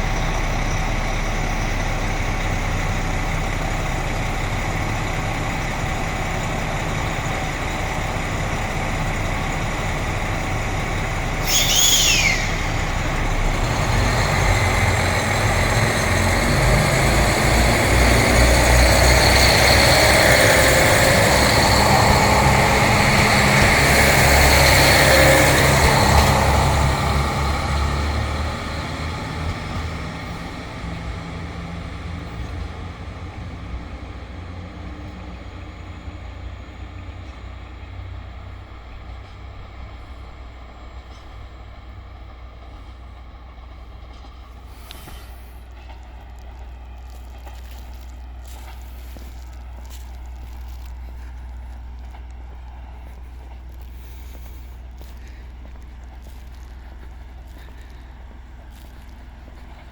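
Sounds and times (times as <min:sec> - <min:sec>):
diesel train engine running: 0:00.0 - 0:59.9.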